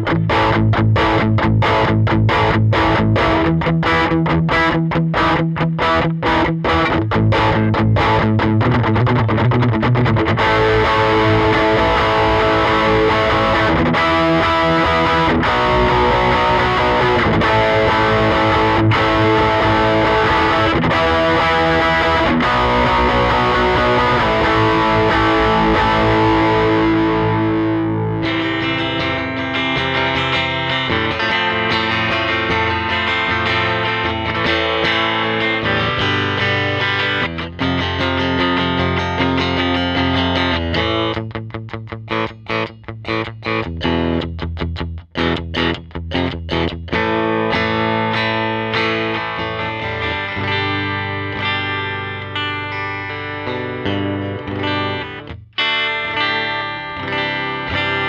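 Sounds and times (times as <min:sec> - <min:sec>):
electric guitar through amp: 0:00.0 - 0:58.0.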